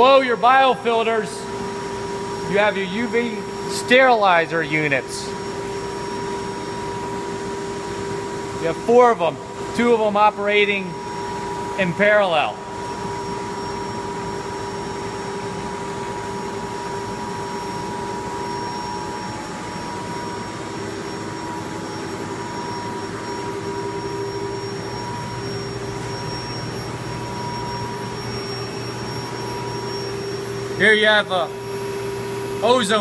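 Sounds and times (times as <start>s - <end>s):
water treatment machinery humming: 0.0s - 33.0s.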